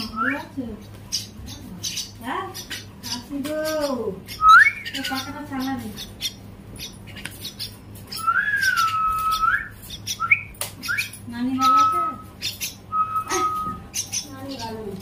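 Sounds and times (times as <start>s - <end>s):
bird chicks whistling: 0.0s - 15.0s.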